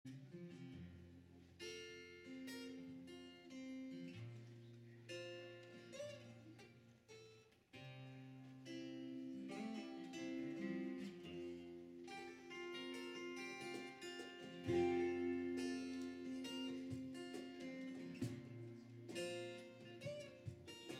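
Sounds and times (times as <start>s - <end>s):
acoustic guitars strumming: 0.1s - 20.9s.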